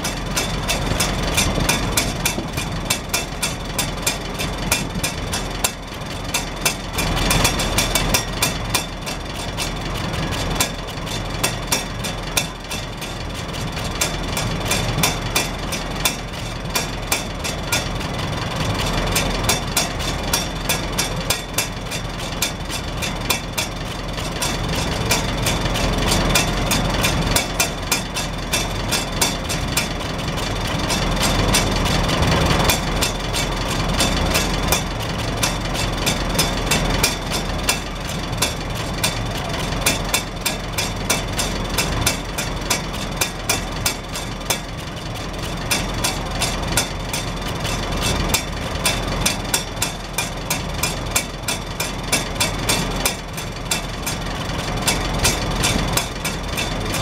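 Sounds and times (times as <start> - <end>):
exhaust rain cap rattling: 0.0 - 57.0
tractor engine idling: 0.0 - 57.0.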